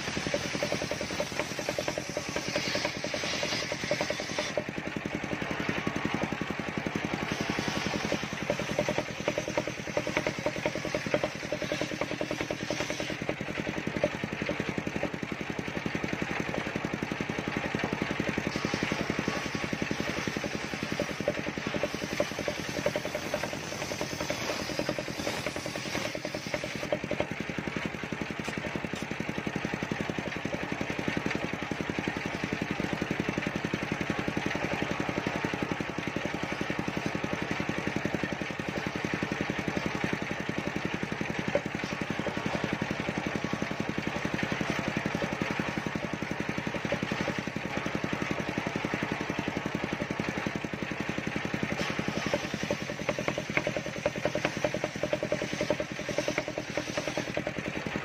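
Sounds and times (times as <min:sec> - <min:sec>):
table saw running: 0:00.0 - 0:58.0.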